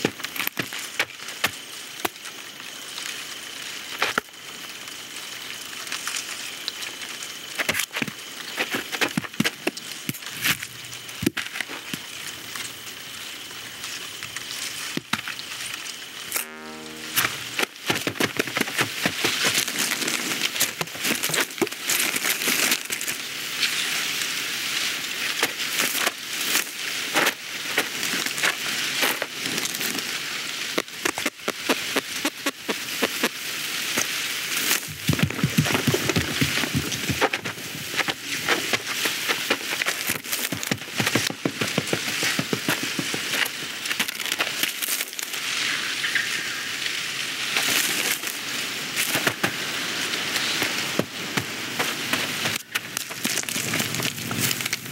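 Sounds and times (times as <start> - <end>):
crackling and rustling clicks: 0.0 - 13.0, 17.2 - 54.9.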